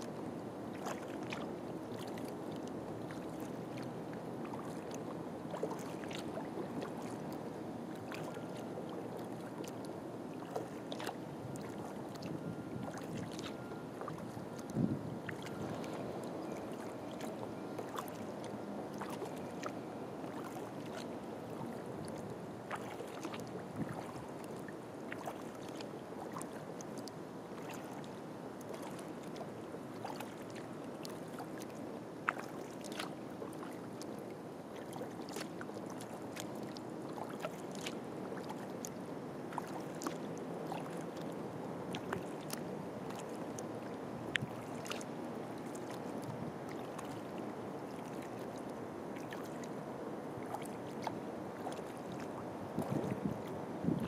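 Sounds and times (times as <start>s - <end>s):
small ticks and splashes: 0.0s - 54.0s
water washing along kayak hull: 0.0s - 54.0s.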